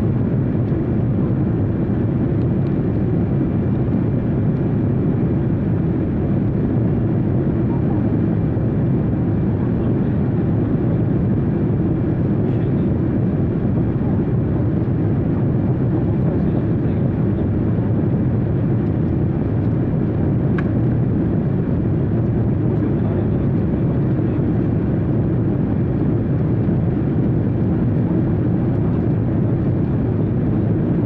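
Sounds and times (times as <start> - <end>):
airliner cabin drone: 0.0 - 31.0.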